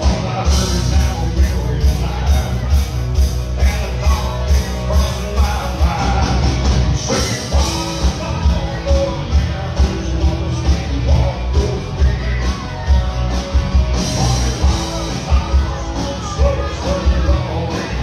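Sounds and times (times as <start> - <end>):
country band playing: 0.0 - 18.0
man singing: 0.0 - 18.0.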